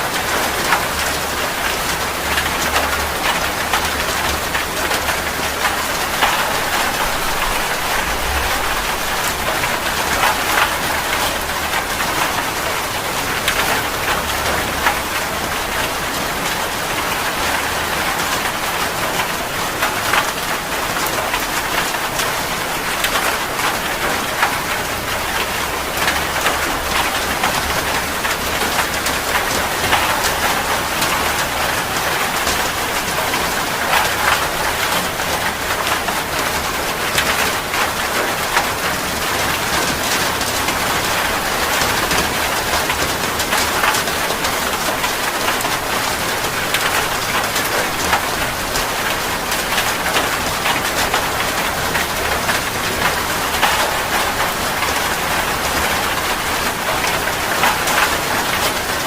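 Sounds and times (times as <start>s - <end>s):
heavy rain falling: 0.0s - 59.0s
raindrops ticking on a surface: 0.1s - 59.0s.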